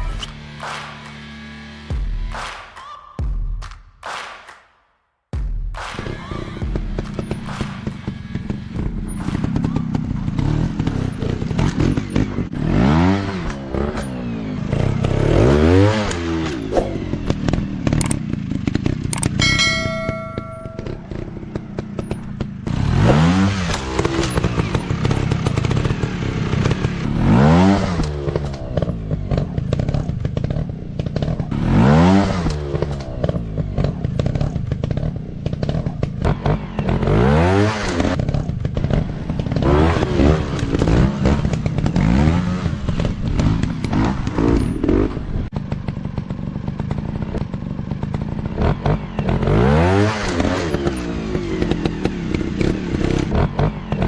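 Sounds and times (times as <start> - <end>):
dirt bike engines revving: 6.4 - 54.0.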